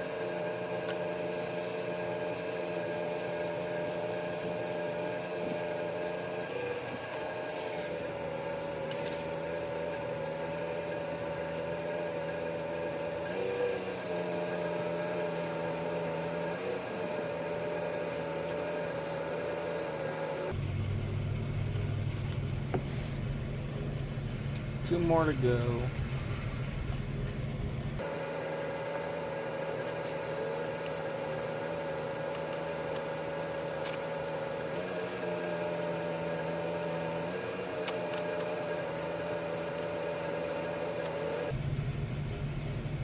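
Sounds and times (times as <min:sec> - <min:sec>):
car engine humming with whine: 0:00.0 - 0:43.0.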